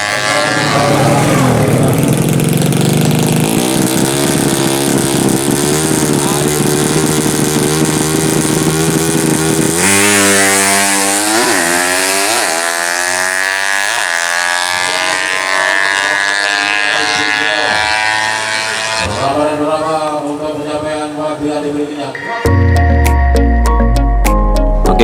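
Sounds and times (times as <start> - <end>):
motorcycle engine revving high: 0.0 - 22.0.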